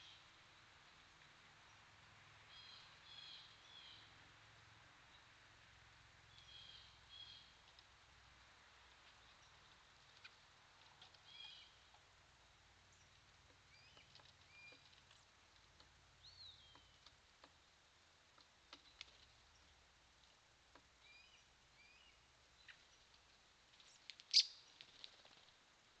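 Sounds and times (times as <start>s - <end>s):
songbirds calling: 0.0s - 4.2s, 6.2s - 8.0s, 8.9s - 25.6s.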